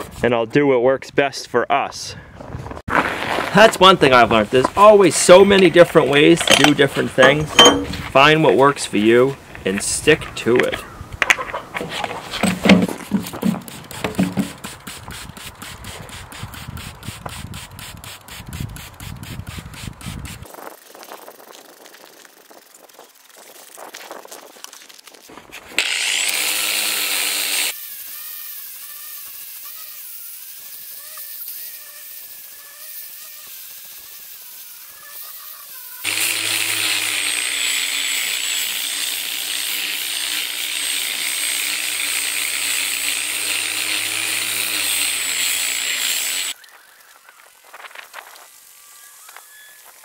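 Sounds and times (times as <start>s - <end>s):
angle grinder wet-sanding concrete: 3.6s - 10.6s, 11.8s - 24.4s, 25.0s - 46.6s.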